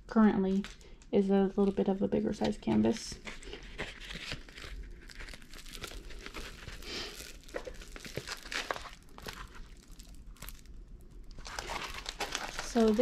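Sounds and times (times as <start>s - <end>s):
plastic film crinkling: 0.4s - 13.0s.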